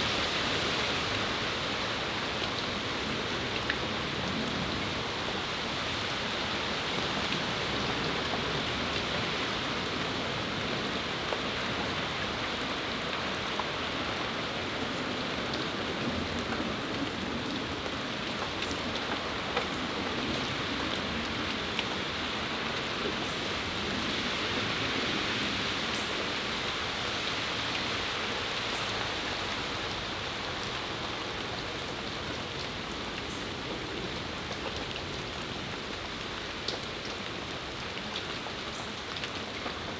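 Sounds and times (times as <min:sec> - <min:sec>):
rain shower falling: 0:00.0 - 0:39.9.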